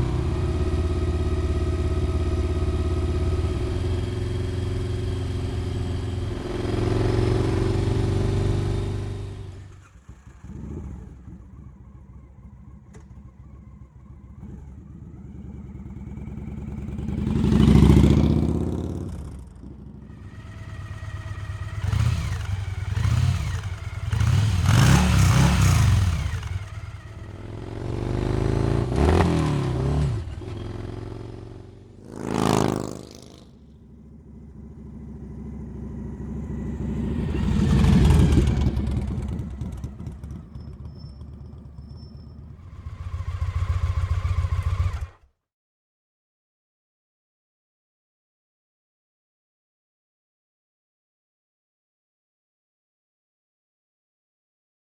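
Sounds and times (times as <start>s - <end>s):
motorcycle engine running and revving: 0.0s - 45.3s.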